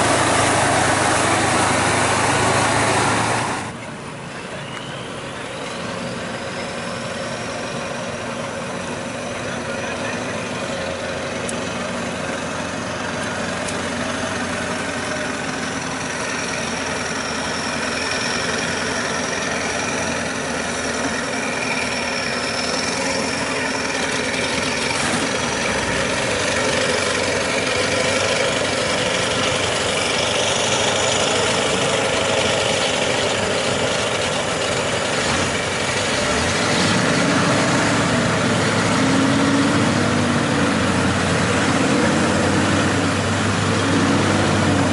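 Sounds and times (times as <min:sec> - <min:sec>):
heavy truck engine running: 0:00.0 - 0:44.9.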